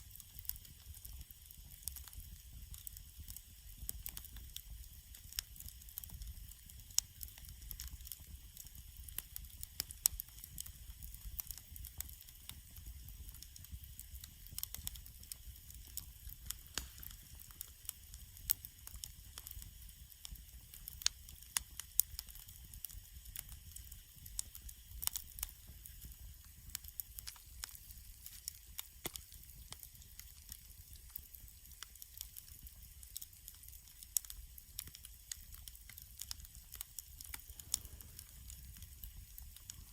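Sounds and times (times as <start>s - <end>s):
campfire crackling: 0.0s - 39.9s
fire popping and snapping: 0.0s - 39.9s
soft steady hiss: 0.0s - 39.9s.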